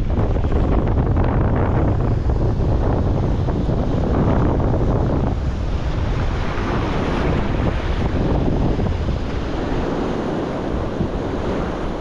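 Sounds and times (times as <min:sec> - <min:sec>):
sea surf: 0:00.0 - 0:12.0
wind buffeting microphone: 0:00.0 - 0:12.0.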